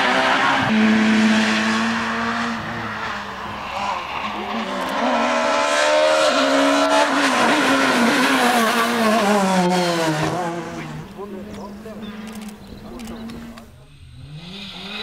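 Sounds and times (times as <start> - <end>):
rally car engines revving: 0.0 - 15.0.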